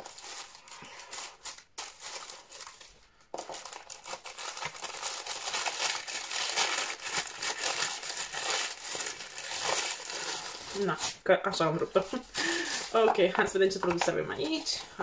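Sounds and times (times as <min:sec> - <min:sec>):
tissue paper rustling: 0:00.0 - 0:15.0.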